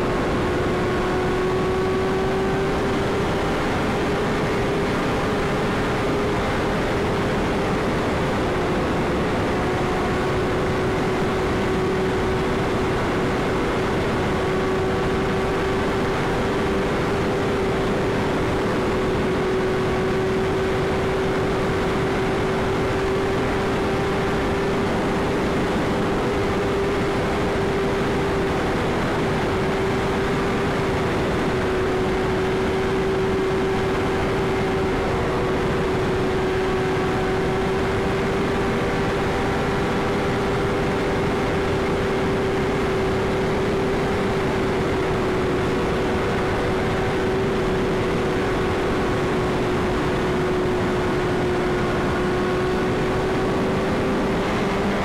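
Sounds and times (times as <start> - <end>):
loud wind rush: 0.0 - 55.0
motorcycle engine cruising: 0.0 - 55.0.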